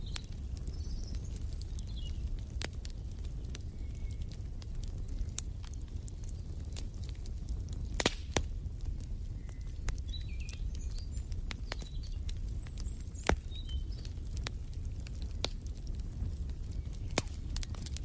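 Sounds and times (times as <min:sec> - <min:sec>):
low rumble of fire: 0:00.0 - 0:18.0
sharp fire pops: 0:00.0 - 0:18.0
wood fire crackling: 0:00.0 - 0:18.0.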